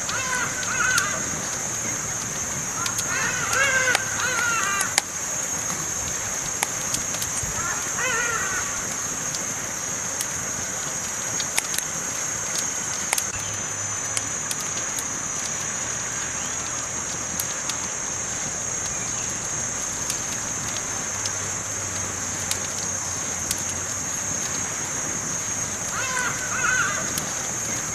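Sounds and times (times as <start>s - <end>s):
campfire wood crackling: 0.0s - 27.9s
steady fire hiss: 0.0s - 27.9s.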